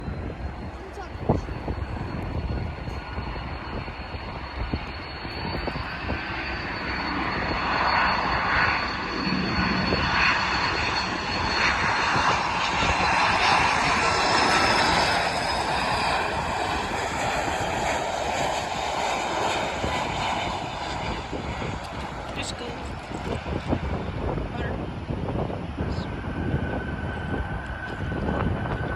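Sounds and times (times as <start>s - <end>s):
faint high whine: 0.0s - 24.9s
jet airliner landing: 0.0s - 28.9s.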